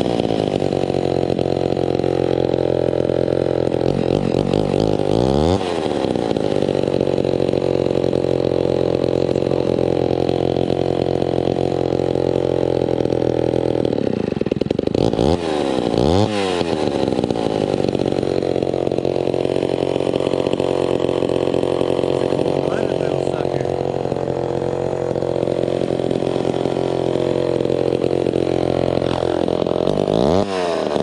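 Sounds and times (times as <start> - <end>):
chainsaw idling: 0.0 - 31.0.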